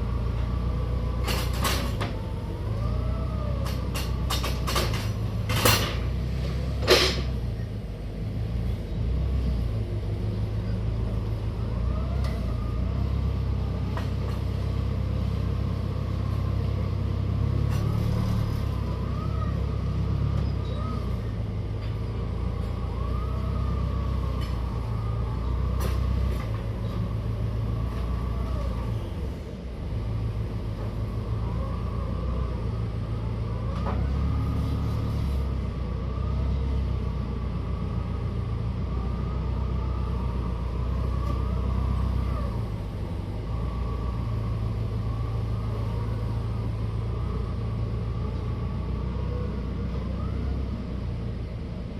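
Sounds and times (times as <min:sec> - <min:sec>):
forklift engine running: 0:00.0 - 0:51.9.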